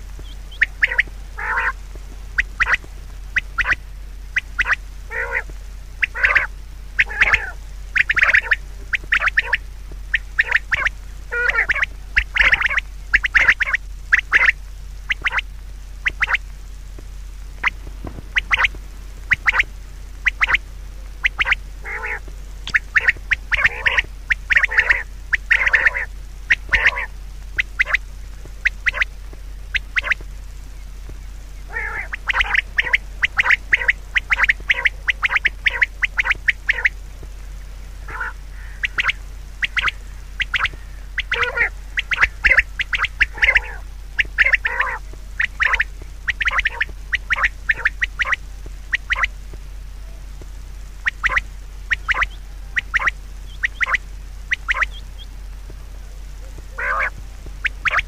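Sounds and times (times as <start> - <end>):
short sharp animal calls: 0.2 - 1.8, 2.4 - 16.4, 17.6 - 20.6, 21.2 - 28.0, 29.7 - 30.2, 31.6 - 37.0, 38.0 - 49.3, 51.0 - 55.3, 56.7 - 58.0.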